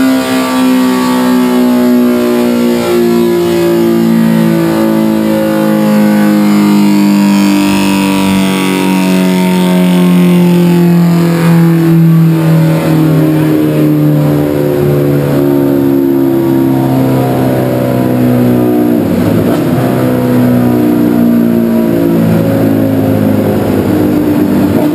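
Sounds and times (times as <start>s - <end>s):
motorcycle engine revving down: 0.0s - 24.9s.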